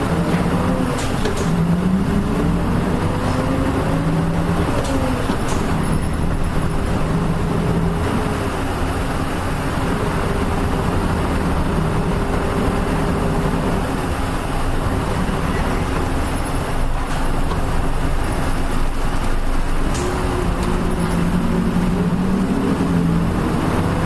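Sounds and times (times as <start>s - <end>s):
bus diesel engine running: 0.0s - 24.0s
road and tyre noise: 0.0s - 24.0s.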